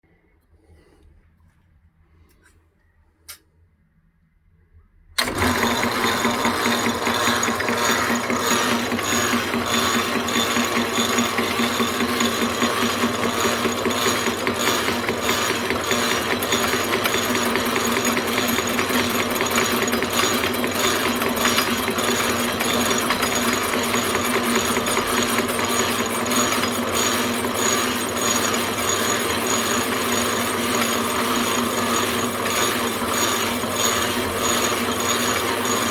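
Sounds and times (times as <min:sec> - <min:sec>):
lathe running with gear ticking: 0:05.2 - 0:35.9.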